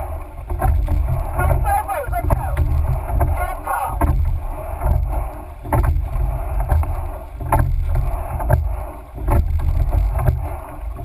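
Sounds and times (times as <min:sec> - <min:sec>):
oar blades splashing: 0:00.0 - 0:11.0
oars clunking in oarlocks: 0:00.0 - 0:11.0
rushing water: 0:00.0 - 0:11.0
wind rumble on microphone: 0:00.0 - 0:11.0.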